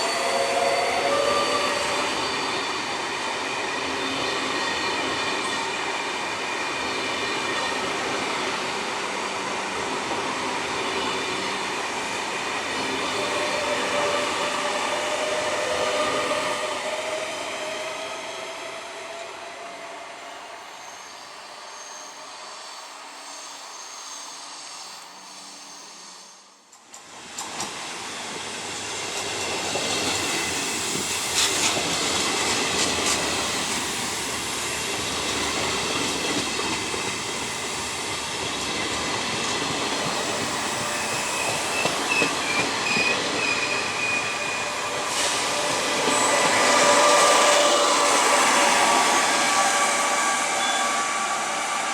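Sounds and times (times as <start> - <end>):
train wheel squeal: 0.0 - 9.0, 10.5 - 26.7, 29.3 - 51.9
train running on rails: 0.0 - 51.9.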